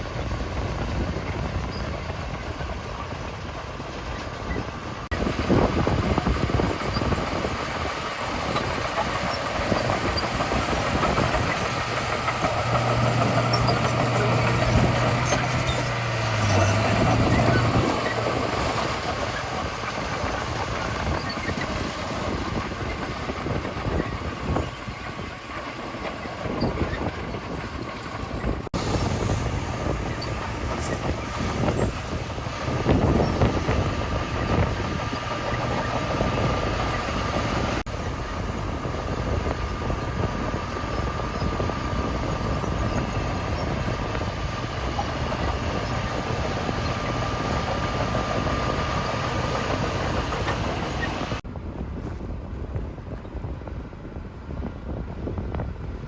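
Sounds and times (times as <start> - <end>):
heavy diesel machinery working: 0.0 - 51.4.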